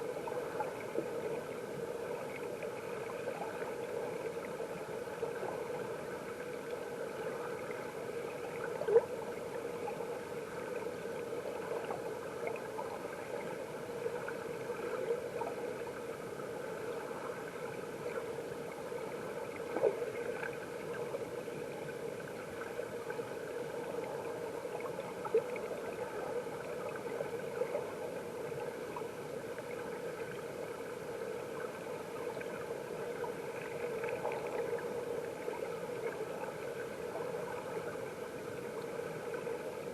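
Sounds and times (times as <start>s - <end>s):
muffled underwater water rush: 0.0s - 39.9s.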